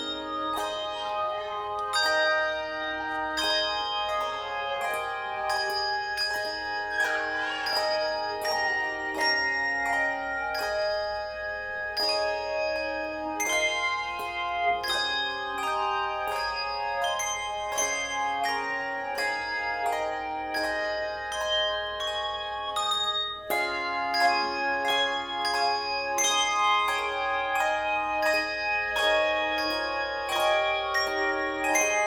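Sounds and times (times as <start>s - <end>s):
tuned bells playing melody: 0.0s - 32.0s.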